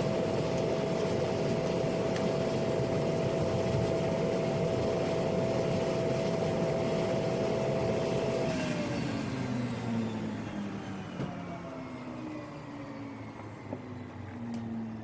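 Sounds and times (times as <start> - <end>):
turboprop engine running: 0.0 - 15.0.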